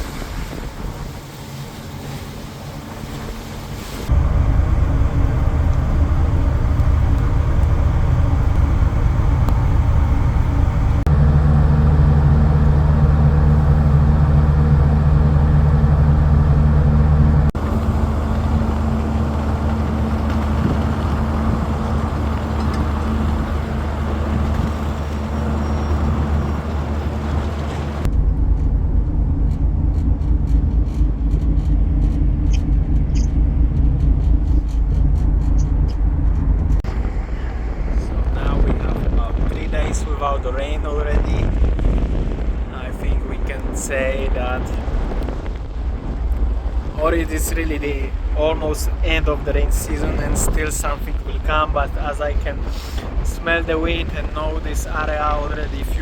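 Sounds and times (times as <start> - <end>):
rushing noise: 0.0 - 56.0
ship engines droning: 0.0 - 56.0.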